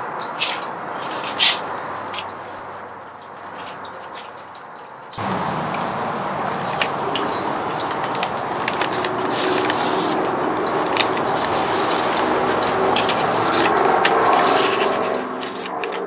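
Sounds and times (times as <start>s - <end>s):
paper rustling and crinkling: 0.2s - 4.6s, 5.2s - 16.0s.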